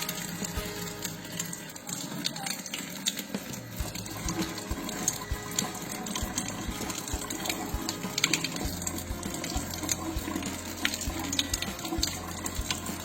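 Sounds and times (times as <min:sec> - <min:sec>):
water splashing onto metal filter: 0:00.0 - 0:13.0.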